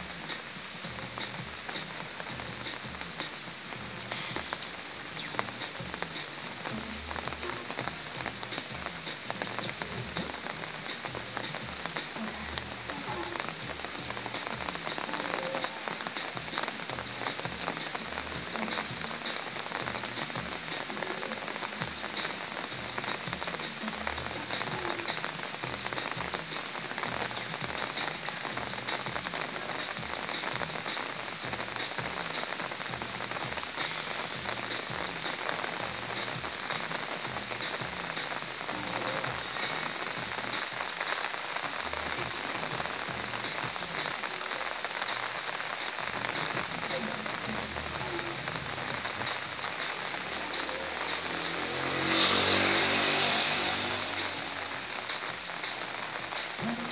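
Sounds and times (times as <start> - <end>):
rain pattering: 0.0 - 56.9.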